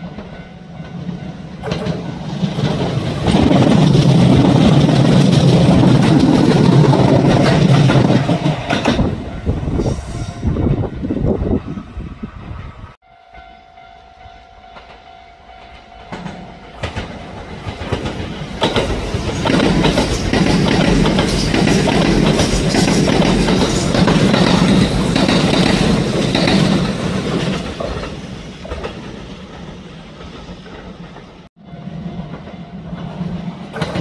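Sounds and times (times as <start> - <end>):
train wheels clicking over rail joints: 0.0 - 9.2, 14.8 - 31.5, 32.1 - 34.0.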